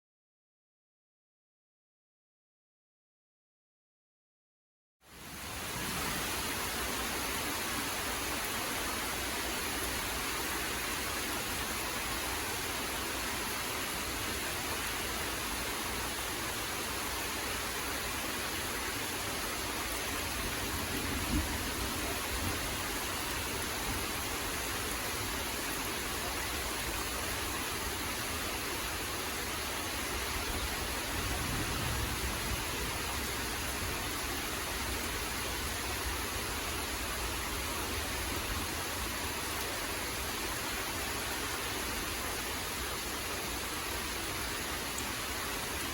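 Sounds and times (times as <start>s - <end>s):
steady rain falling: 5.0s - 45.9s.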